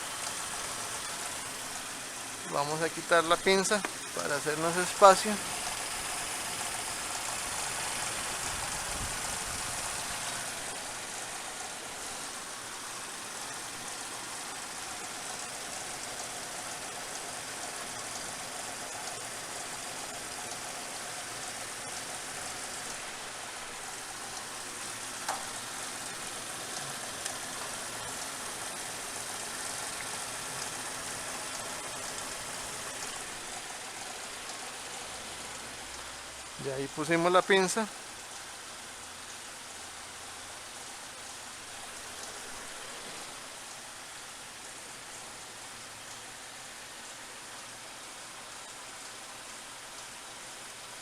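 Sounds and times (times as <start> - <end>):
engine idling hiss: 0.0 - 51.0.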